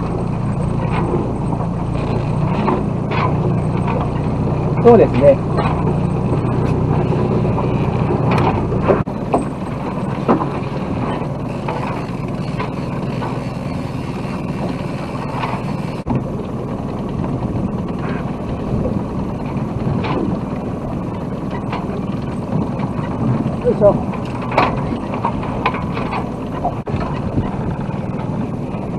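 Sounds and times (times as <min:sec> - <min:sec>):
low steady hum: 0:00.0 - 0:28.9
wind and water rushing: 0:00.0 - 0:28.9.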